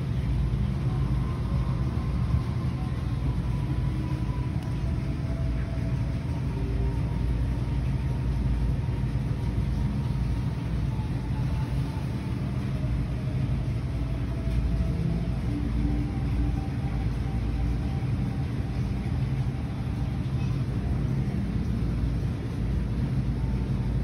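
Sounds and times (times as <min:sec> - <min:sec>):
low rumble and hum: 0:00.0 - 0:24.0.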